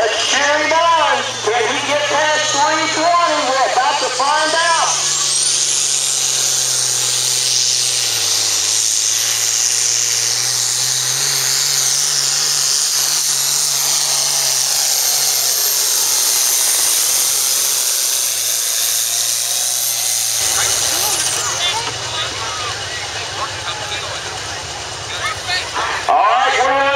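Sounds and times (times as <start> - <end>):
tractor engine at full power: 0.0 - 26.9
turbo whine: 0.0 - 26.9.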